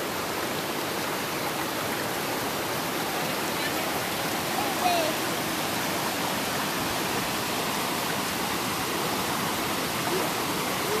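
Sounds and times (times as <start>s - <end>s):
river water running over stones: 0.0s - 11.0s.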